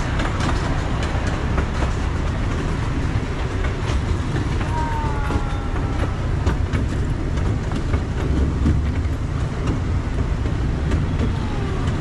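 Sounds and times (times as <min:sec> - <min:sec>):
train wheels rumbling on rails: 0:00.0 - 0:12.0
wheels clicking on track: 0:00.0 - 0:12.0.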